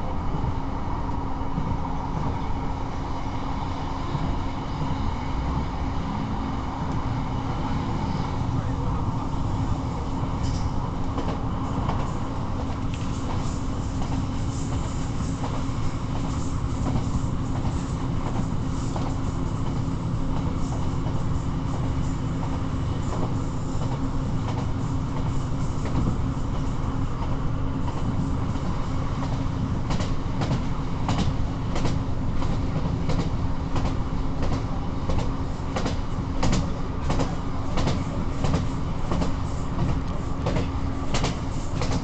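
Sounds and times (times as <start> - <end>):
train rumble with engine drone: 0.0 - 42.0.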